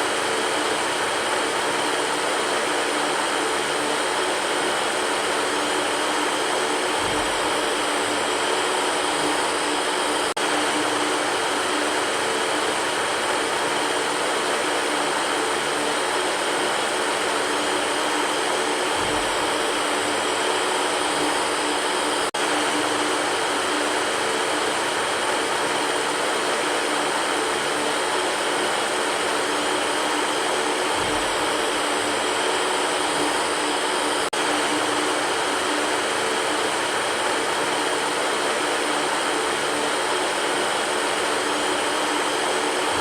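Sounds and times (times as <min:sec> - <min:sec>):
electric fan whirring: 0:00.0 - 0:43.0.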